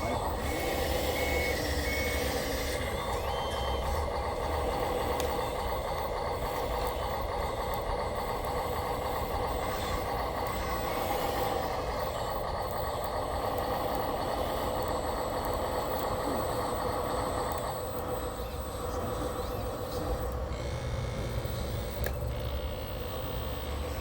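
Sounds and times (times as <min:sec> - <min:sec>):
toy machines humming and whining: 0:00.0 - 0:24.0.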